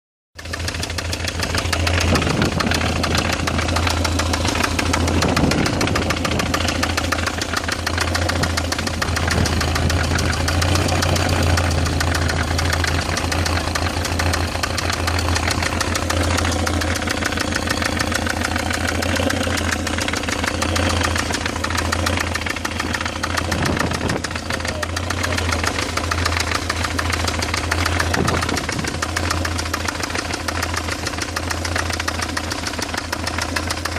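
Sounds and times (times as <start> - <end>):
car engine running: 0.4 - 33.9
fast even engine knocking: 0.4 - 33.9.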